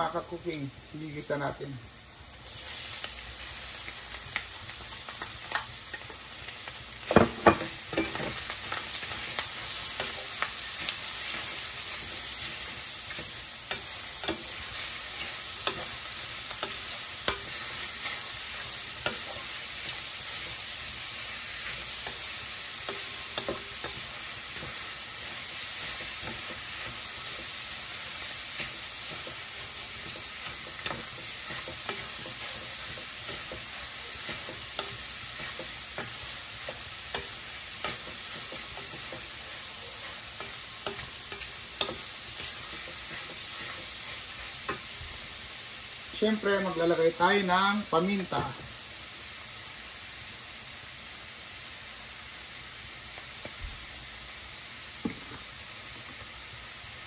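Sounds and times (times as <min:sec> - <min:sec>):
food sizzling in a pan: 0:00.0 - 0:57.0.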